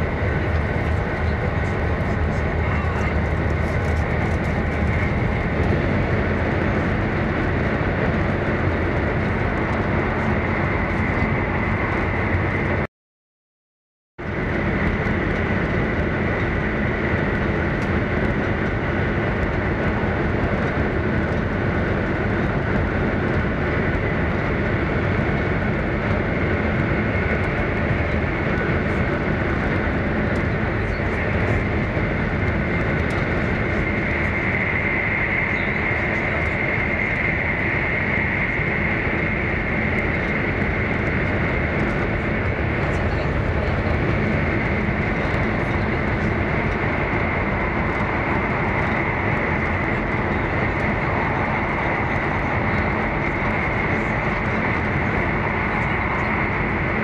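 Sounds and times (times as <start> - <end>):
train cabin rumble: 0.0 - 12.8, 14.2 - 57.0.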